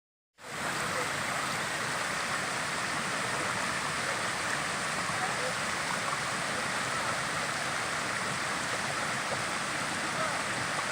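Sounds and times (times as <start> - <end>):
creek rushing: 0.4 - 10.9.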